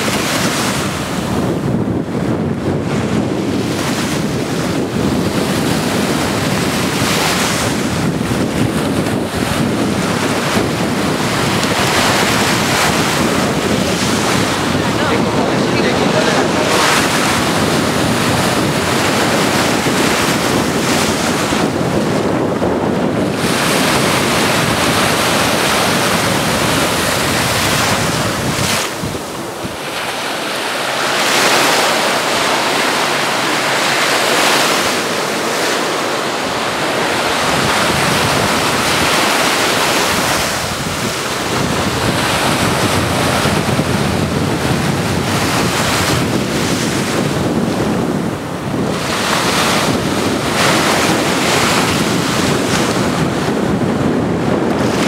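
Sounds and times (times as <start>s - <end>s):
wind buffeting microphone: 0.0s - 55.0s
small waves breaking: 3.7s - 22.4s, 23.0s - 53.4s.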